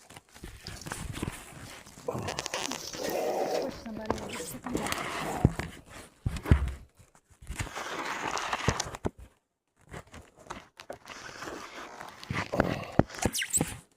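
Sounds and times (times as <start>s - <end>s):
rustling and crinkling handling: 0.0s - 13.9s.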